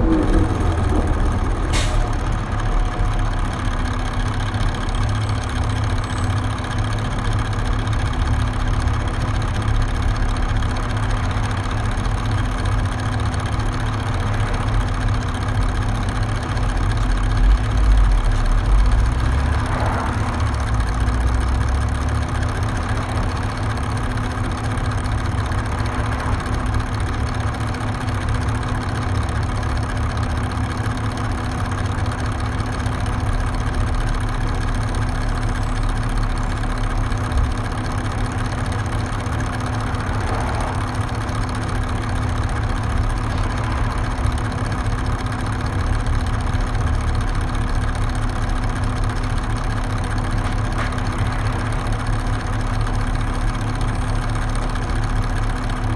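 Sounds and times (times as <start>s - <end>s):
diesel bus engine rumbling: 0.0s - 55.9s.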